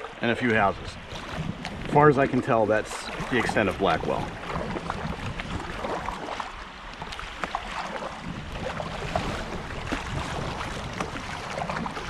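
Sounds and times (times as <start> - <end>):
creek water flowing: 0.0 - 12.0
paddle splashing in water: 0.0 - 12.0.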